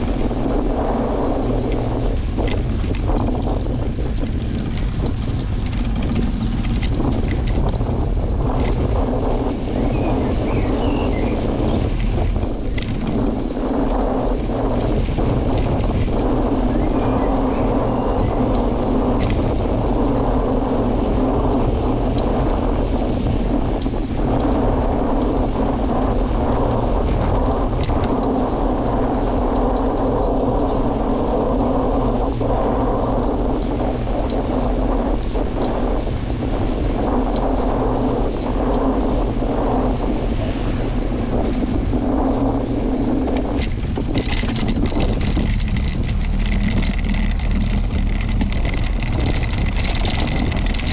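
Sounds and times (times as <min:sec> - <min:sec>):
low drone: 0:00.0 - 0:50.9
wind rumbling on microphone: 0:00.0 - 0:50.9.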